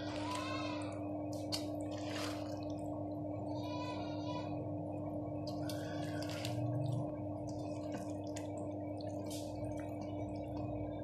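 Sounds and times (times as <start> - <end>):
hand kneading meat in marinade: 0.0 - 3.3, 5.1 - 11.0
steady hum: 0.0 - 11.0.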